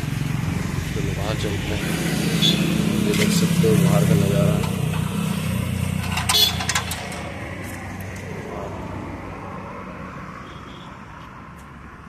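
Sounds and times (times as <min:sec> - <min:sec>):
passing vehicle engine hum: 0:00.0 - 0:12.0.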